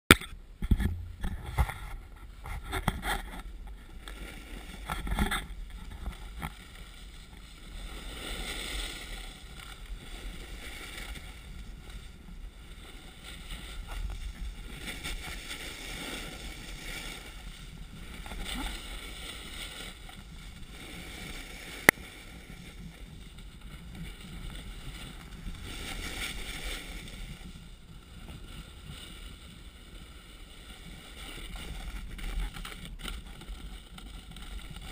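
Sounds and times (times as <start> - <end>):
snowboard scraping on snow: 0.8 - 34.9.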